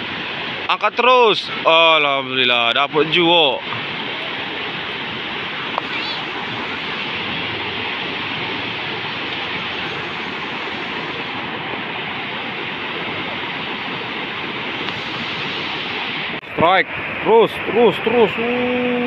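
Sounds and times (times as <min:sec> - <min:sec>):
river rapids roaring: 0:00.0 - 0:19.0.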